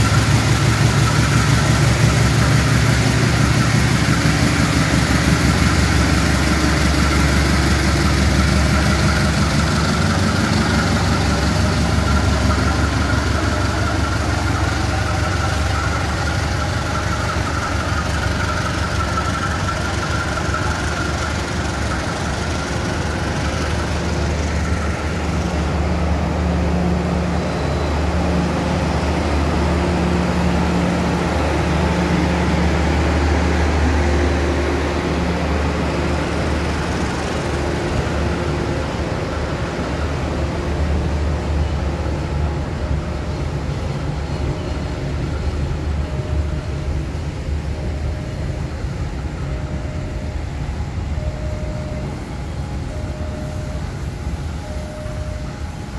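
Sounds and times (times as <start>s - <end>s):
train carriages rumbling: 0.0s - 55.9s.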